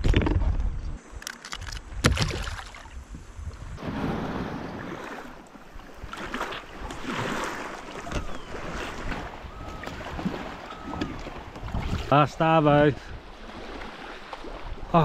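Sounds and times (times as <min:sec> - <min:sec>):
water sloshing around kayak: 0:01.4 - 0:15.0
wind on microphone: 0:01.8 - 0:15.0.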